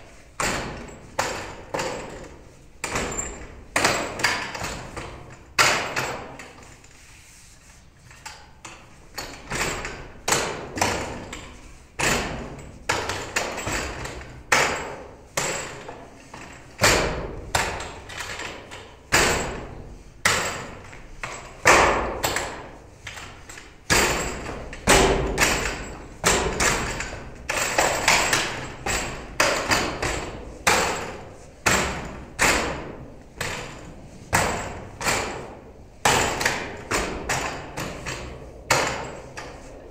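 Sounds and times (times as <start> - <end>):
arms knocking wooden training dummy: 0.4 - 6.7, 9.1 - 39.6.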